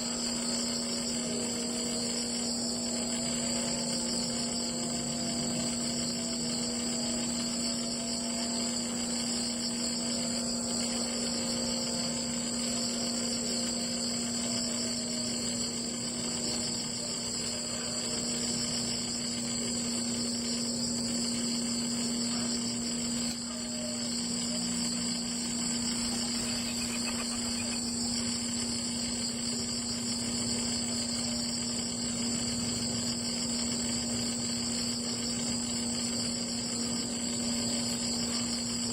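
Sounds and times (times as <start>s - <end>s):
insect chirring: 0.0s - 38.9s
low hum: 0.0s - 38.9s.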